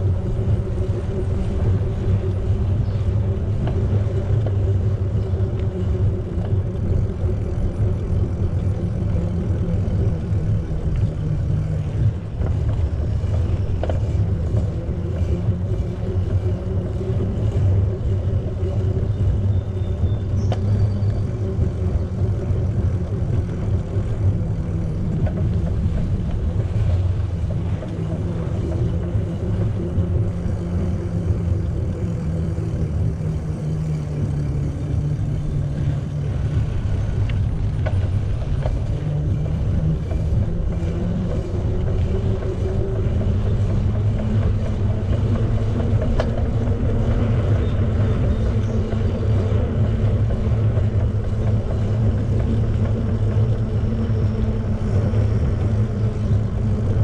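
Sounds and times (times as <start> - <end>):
bicycle tyres rolling on pavement: 0.0 - 57.0
wind buffeting microphone: 0.0 - 57.0.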